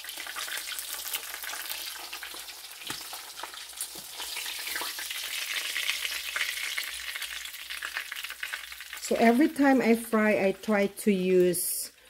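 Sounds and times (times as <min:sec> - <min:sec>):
fish sizzling in hot oil: 0:00.0 - 0:10.1.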